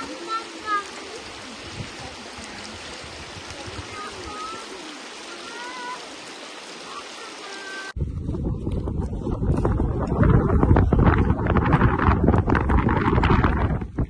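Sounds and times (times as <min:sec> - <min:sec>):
stream running: 0:00.0 - 0:14.0.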